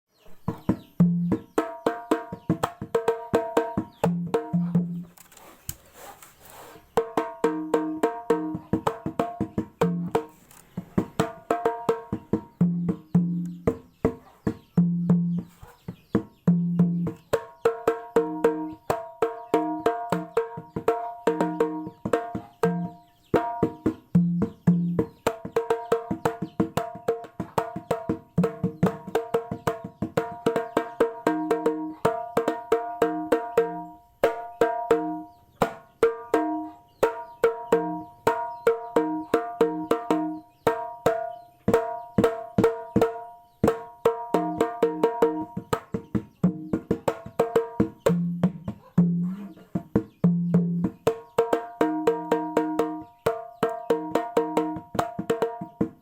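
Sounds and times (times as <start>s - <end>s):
hand drum fast rhythm: 0.4s - 5.1s, 6.9s - 56.0s.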